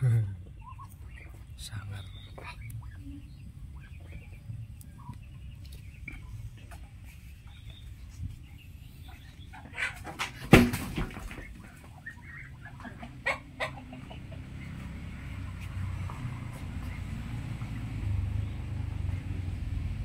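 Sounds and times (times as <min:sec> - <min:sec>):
poultry calls: 0:00.0 - 0:19.2.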